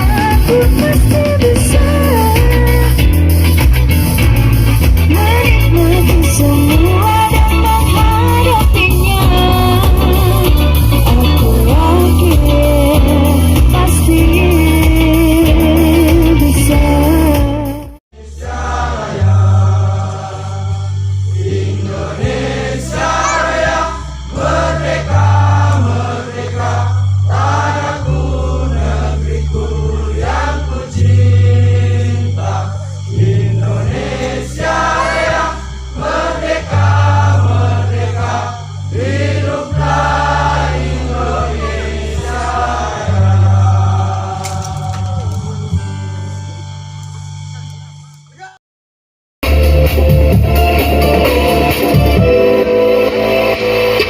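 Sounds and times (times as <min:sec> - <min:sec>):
song with singing and bass: 0:00.0 - 0:46.9, 0:49.4 - 0:54.0
background music: 0:00.0 - 0:47.8, 0:49.4 - 0:54.0.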